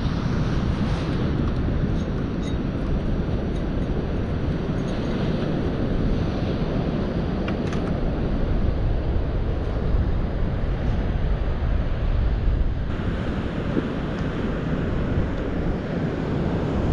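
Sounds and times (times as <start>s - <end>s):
ocean surf: 0.0s - 16.9s
wind buffeting microphone: 0.0s - 16.9s.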